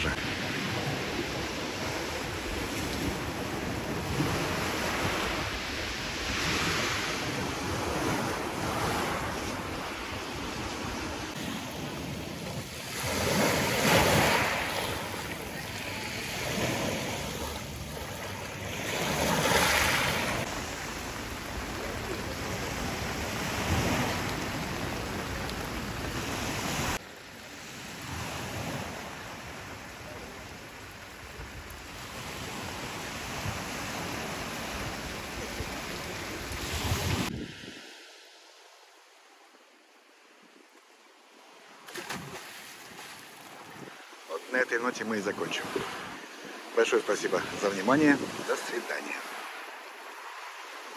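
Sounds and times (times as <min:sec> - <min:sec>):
sea surf washing onto beach: 0:00.0 - 0:50.9
waves breaking: 0:00.0 - 0:50.9.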